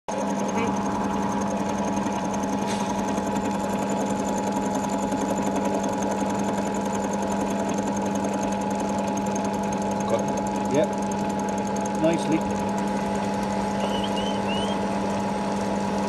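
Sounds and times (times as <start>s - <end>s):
rapid even ticking: 0.1s - 14.7s
milling machine motor hum: 0.1s - 16.0s.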